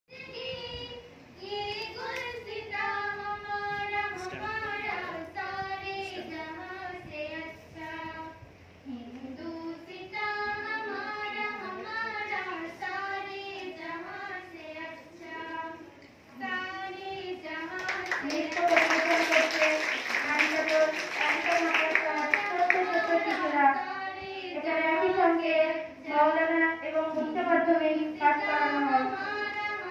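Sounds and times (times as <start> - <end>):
girl singing: 0.1 - 29.9.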